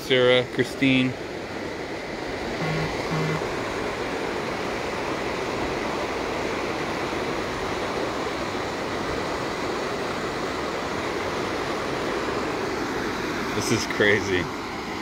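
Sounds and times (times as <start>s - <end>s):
floodwater rushing: 1.4s - 15.0s.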